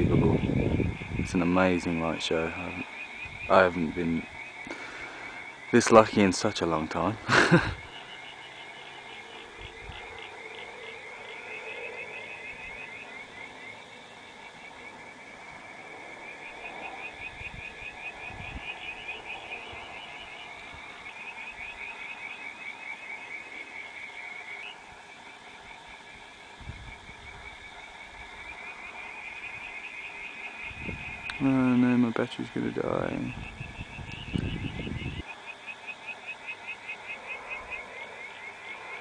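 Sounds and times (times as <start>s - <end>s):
frogs trilling: 0.0s - 39.0s.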